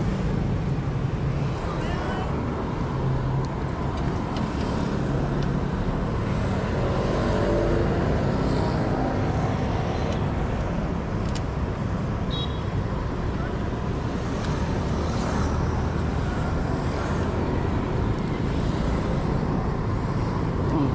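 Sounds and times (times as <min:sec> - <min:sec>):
motorbikes and cars passing: 0:00.0 - 0:20.9.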